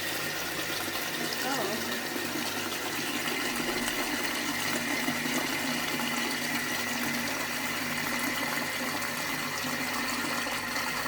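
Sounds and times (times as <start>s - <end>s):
toilet flushing: 0.0s - 11.0s.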